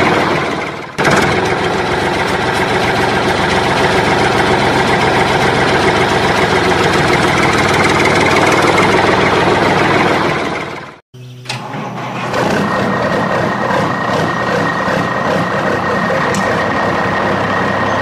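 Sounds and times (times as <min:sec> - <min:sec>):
engine idling: 0:00.0 - 0:11.0, 0:11.7 - 0:18.0.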